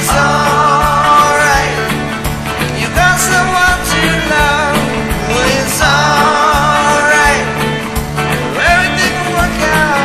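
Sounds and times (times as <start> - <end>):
person singing: 0.0 - 2.0, 2.6 - 7.9, 8.5 - 10.0
guitar accompaniment: 0.0 - 10.0.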